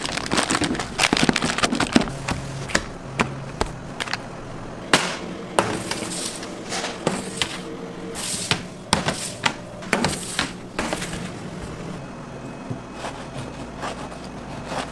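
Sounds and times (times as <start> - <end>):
equipment hum: 0.0 - 14.9.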